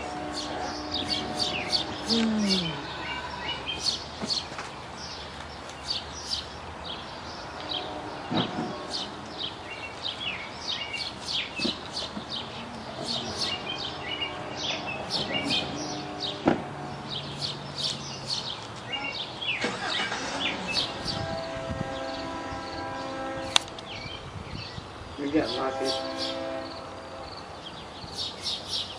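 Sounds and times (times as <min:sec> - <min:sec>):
songbirds chirping and singing: 0:00.0 - 0:28.9.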